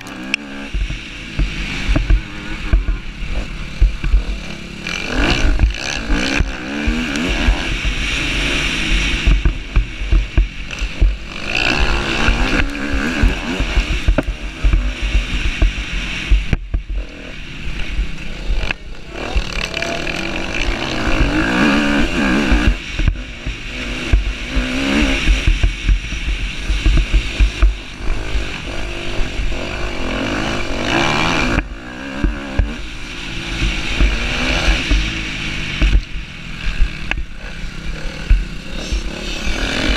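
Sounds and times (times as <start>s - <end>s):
motocross bike engine revving: 0.0s - 39.9s
wind buffeting microphone: 0.0s - 39.9s.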